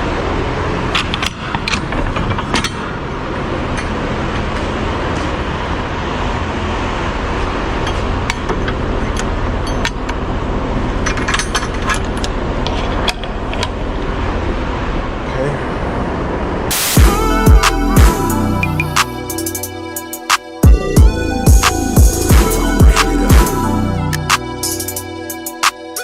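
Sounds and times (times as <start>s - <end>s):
truck engine rumbling: 0.0s - 25.6s.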